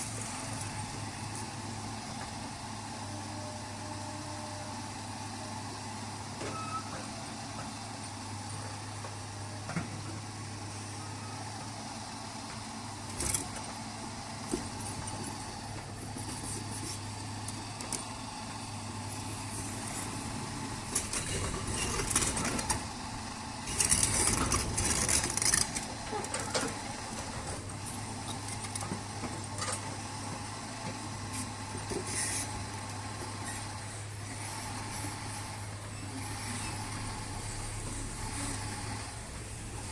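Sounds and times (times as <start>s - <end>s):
vehicle engine humming: 0.0s - 6.4s, 7.0s - 39.9s.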